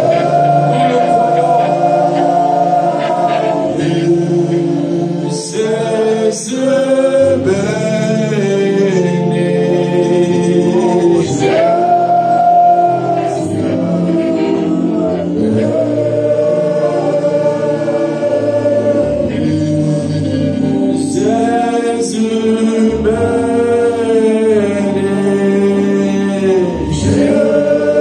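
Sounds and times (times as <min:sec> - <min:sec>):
group singing worship song: 0:00.0 - 0:28.0
instrumental accompaniment: 0:00.0 - 0:28.0.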